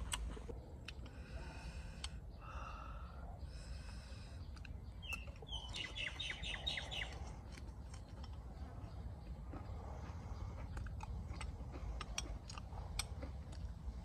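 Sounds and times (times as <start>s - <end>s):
low background rumble: 0.0s - 14.0s
bird calls and chirps: 0.1s - 13.2s.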